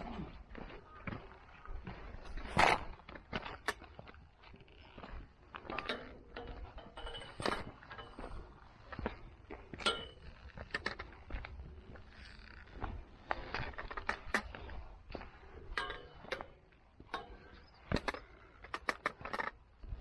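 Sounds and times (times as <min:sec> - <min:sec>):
footsteps on rocky trail: 0:00.0 - 0:20.0.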